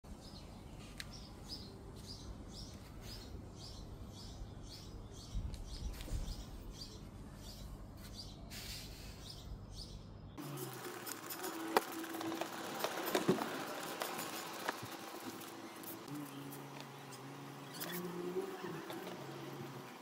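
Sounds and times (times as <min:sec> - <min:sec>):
small bird chirping: 0:00.2 - 0:19.8.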